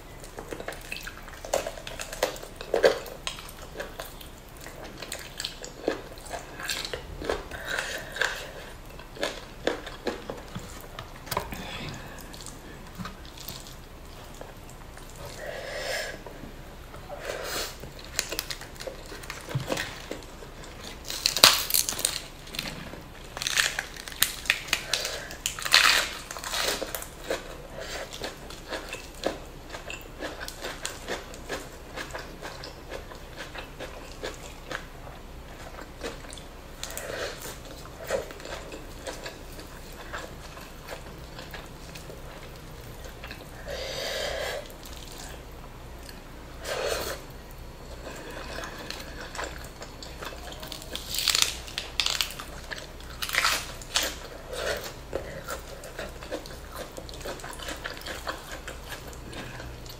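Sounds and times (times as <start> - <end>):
crunchy chewing: 0.0 - 59.9.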